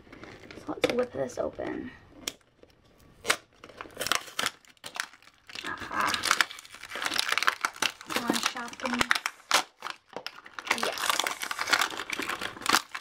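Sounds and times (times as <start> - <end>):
plastic crinkling and tearing: 0.0 - 13.0
sharp plastic cracks: 2.2 - 13.0.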